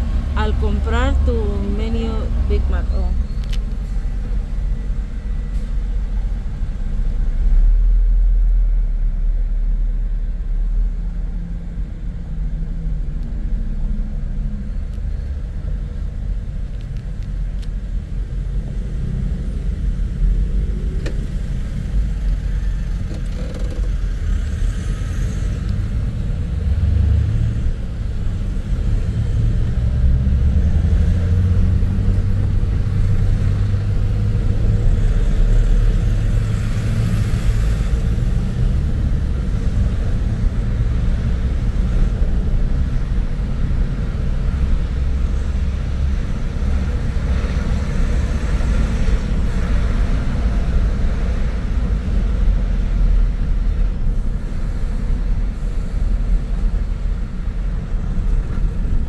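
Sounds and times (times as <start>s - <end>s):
car rumble from inside cabin: 0.0s - 59.0s.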